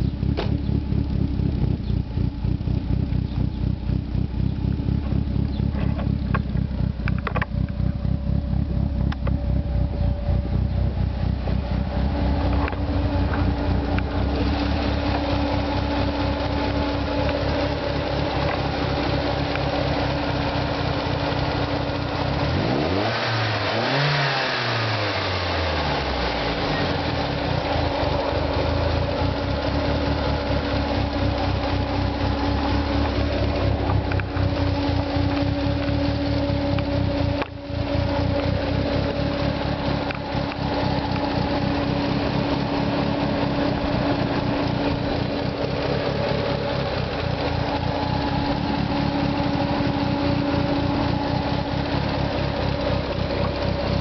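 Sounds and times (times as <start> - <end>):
car engine idling: 0.0 - 54.0
engine revving: 0.0 - 54.0.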